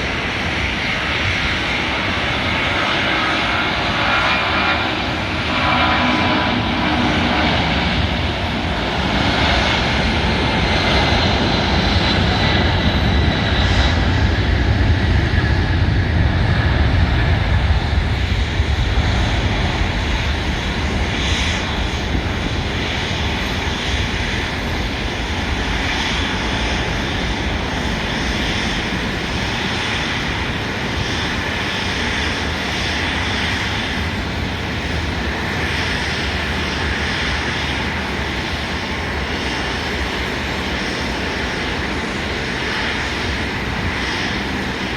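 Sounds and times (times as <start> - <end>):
jet engine roar: 0.0 - 44.9.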